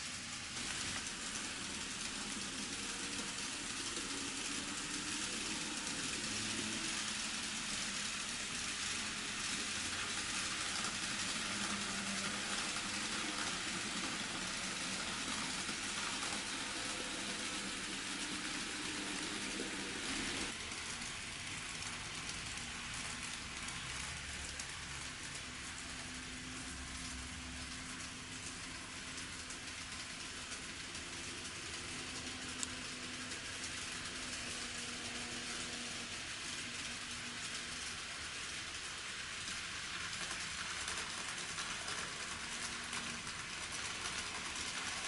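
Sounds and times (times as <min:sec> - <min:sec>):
model train wheels hissing on rails: 0:00.0 - 0:45.0.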